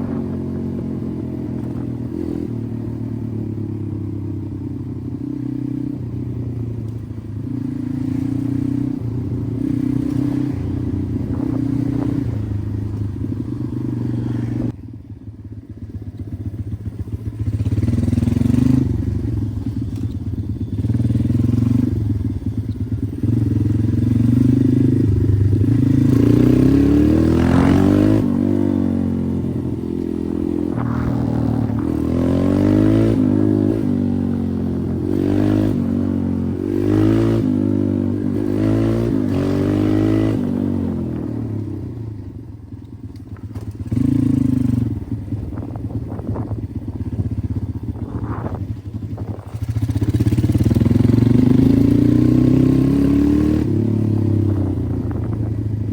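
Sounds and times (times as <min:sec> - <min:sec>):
motorbike engine revving: 0:00.0 - 0:04.1, 0:07.3 - 0:14.8, 0:15.9 - 0:55.9.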